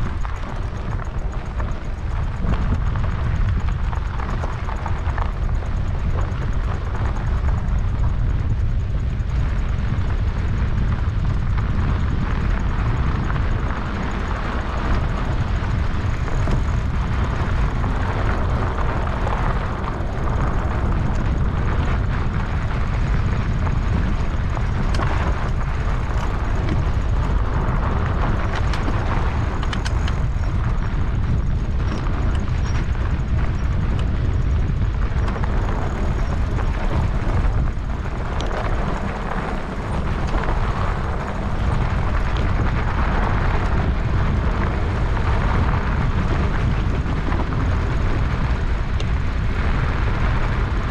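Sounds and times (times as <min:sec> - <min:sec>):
small ticks and rattles: 0:00.0 - 0:50.9
wind rumbling on microphone: 0:00.0 - 0:50.9.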